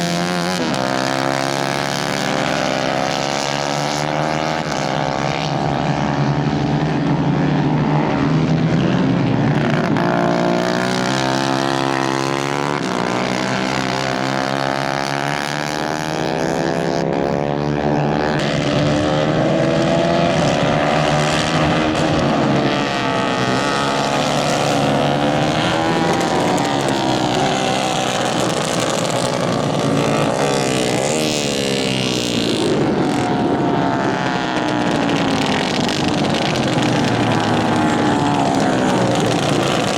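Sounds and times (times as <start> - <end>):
kart engines racing: 0.0 - 39.9.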